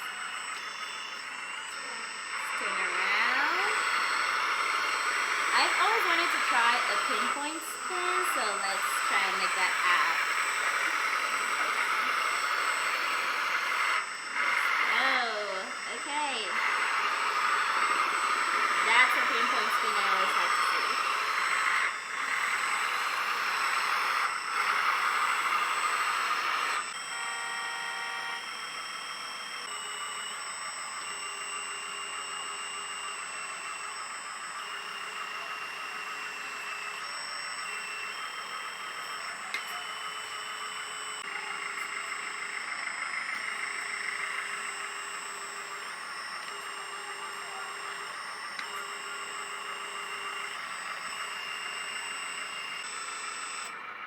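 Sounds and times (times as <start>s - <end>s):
electric motors whining: 0.0s - 54.0s
hydraulic pump whine: 0.0s - 54.0s.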